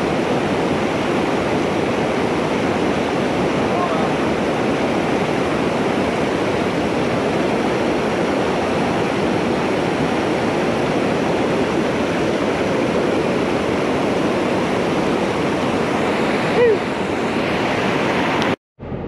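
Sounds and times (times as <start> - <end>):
creek water rushing over rocks: 0.0 - 18.6.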